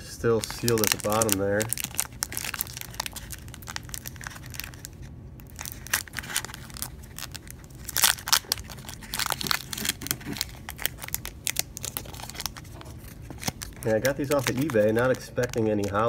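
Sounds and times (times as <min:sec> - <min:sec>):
foil wrapper crinkling: 0:00.3 - 0:16.0.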